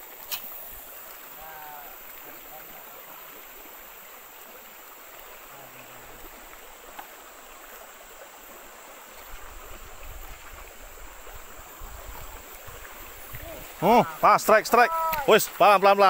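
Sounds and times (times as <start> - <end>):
stream flowing over stones: 0.0 - 16.0.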